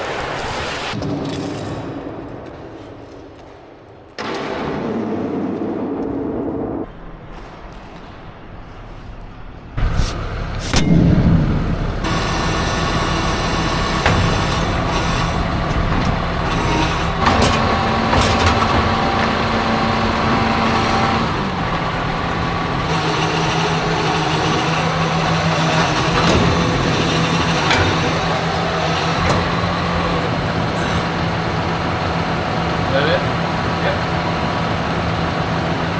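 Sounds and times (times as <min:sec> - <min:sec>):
diesel farm machinery running: 0:04.2 - 0:35.9.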